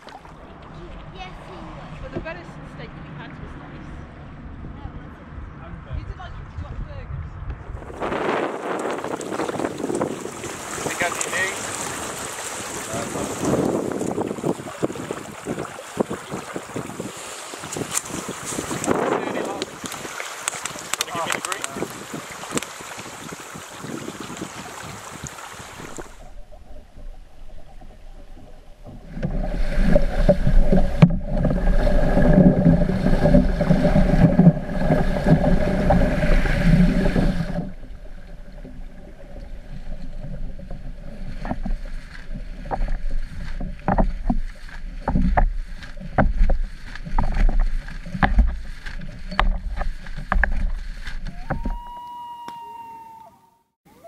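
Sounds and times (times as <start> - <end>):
water slapping against canoe hulls: 0.0 - 2.4, 7.8 - 53.2.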